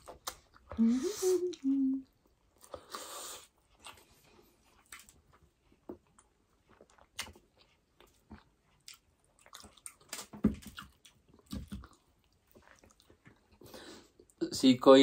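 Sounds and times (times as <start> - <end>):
people chewing food: 0.0 - 14.6.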